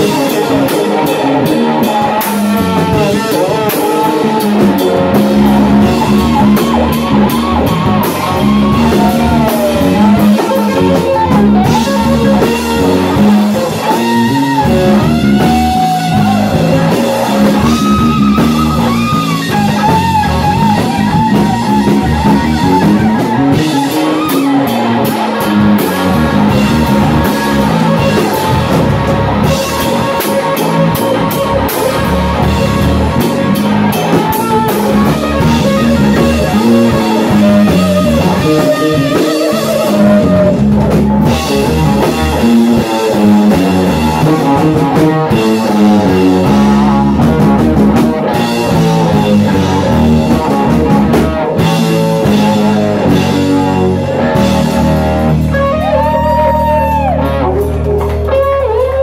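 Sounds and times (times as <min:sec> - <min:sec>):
drum kit with cymbals: 0:00.0 - 0:59.0
electric guitar solo: 0:00.0 - 0:59.0.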